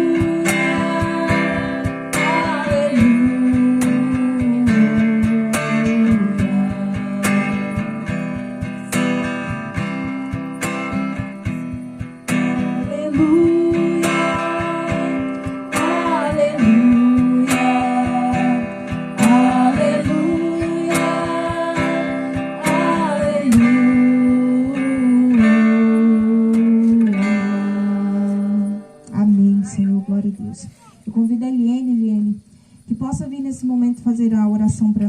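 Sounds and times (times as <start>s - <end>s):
sliding held melody notes: 0.0s - 30.2s
strummed acoustic guitar: 0.0s - 31.2s.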